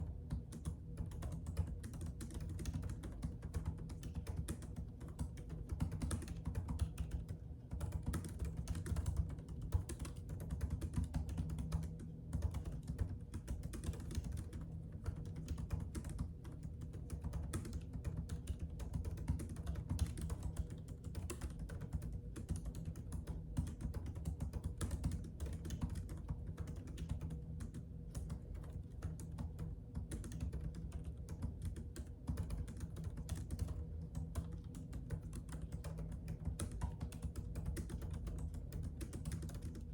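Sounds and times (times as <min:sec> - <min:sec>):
faint low hum: 0:00.0 - 0:39.9
typing on computer keyboard: 0:00.1 - 0:39.9.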